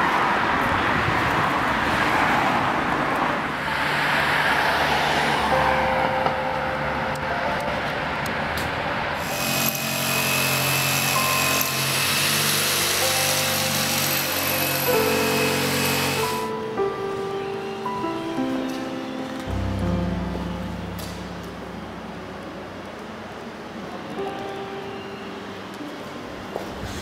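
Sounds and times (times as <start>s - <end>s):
city street traffic: 0.0s - 27.0s.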